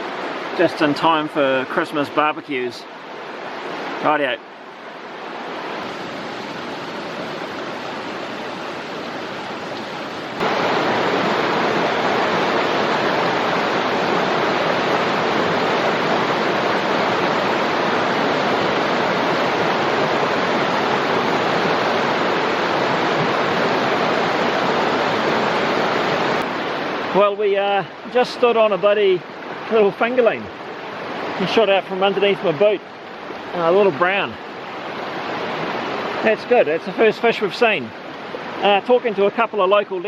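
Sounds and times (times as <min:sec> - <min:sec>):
mountain stream rushing: 0:00.0 - 0:40.0.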